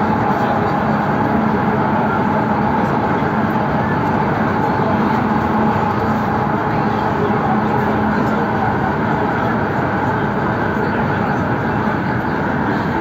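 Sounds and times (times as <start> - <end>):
train drive hum and whine: 0.0 - 13.0
train wheels rumbling on rail: 0.0 - 13.0.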